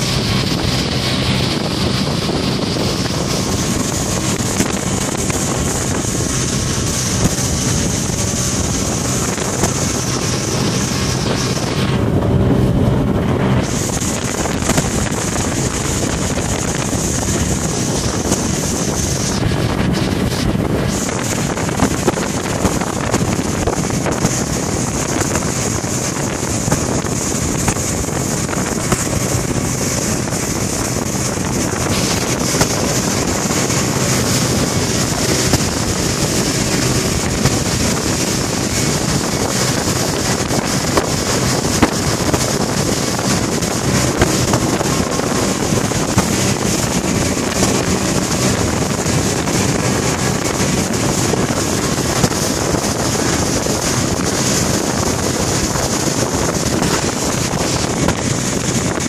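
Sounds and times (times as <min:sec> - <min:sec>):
boat engine: 0:00.0 - 0:59.0
water noise: 0:00.0 - 0:59.0
wind buffeting microphone: 0:00.0 - 0:59.0.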